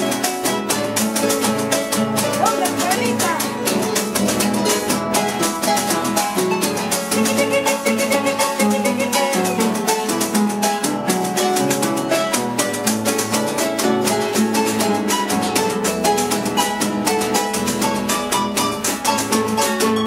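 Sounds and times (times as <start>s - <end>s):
folk music with guitar: 0.0s - 20.0s.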